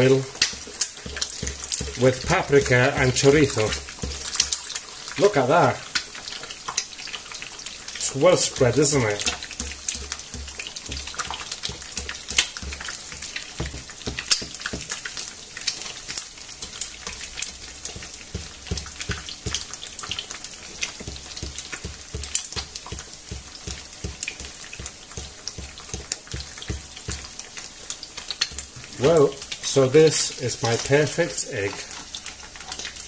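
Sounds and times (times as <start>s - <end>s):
egg sizzling in oil: 0.0s - 33.0s.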